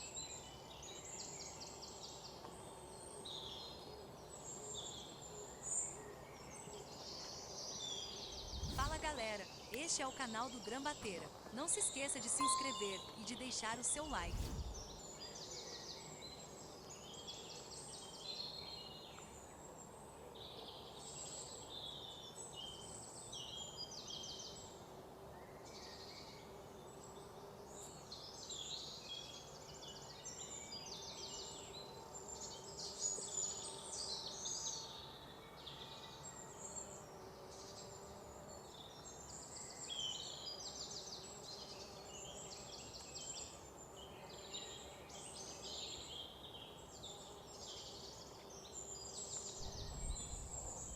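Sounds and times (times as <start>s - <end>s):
birds singing trills and chirps: 0.0s - 24.8s, 25.5s - 50.9s.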